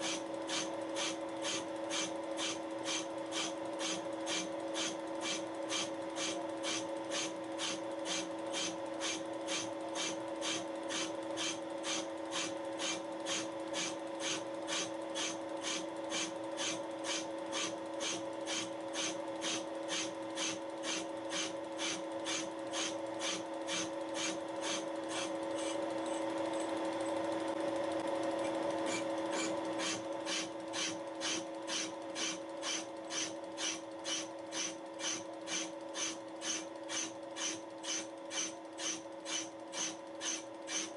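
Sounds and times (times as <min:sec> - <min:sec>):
motor and gear hum: 0:00.0 - 0:40.9
rhythmic cutting tool scraping: 0:00.0 - 0:40.9.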